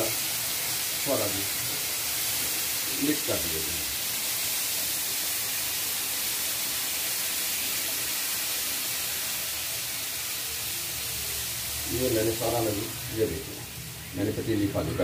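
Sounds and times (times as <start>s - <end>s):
syrup sizzling in hot wok: 0.0s - 15.0s.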